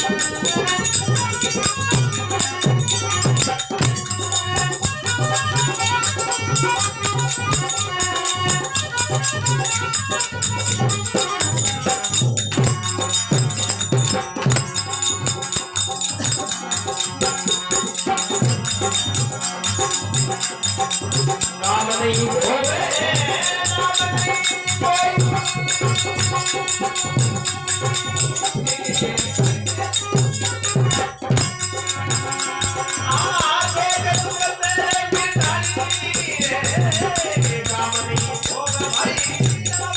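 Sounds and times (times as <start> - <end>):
drum beat: 0.0 - 39.9
held melody: 0.0 - 39.9
jingling rattling percussion: 0.0 - 39.9.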